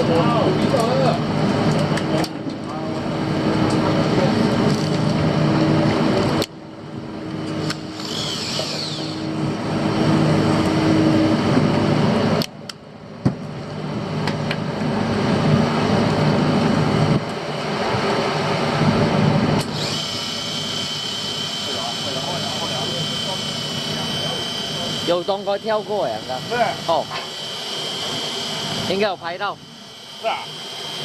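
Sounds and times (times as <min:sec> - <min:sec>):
boat engine running: 0:00.0 - 0:12.4, 0:13.9 - 0:31.0
wind: 0:00.0 - 0:31.0.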